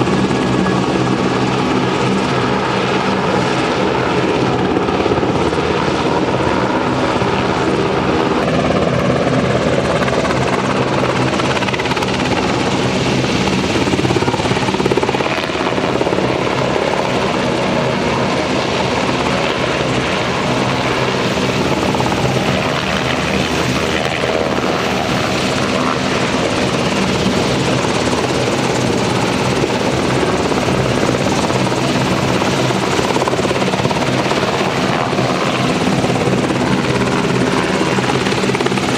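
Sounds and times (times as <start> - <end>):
helicopter engines and rotor: 0.0 - 38.9.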